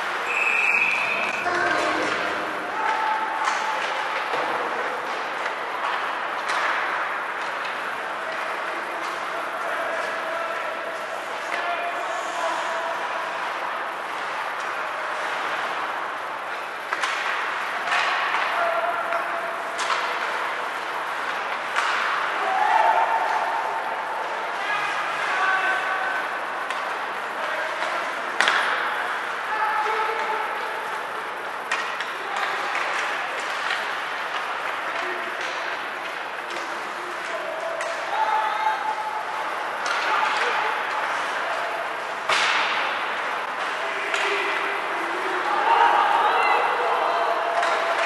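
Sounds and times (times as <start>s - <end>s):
rink and crowd noise: 0.0s - 48.0s.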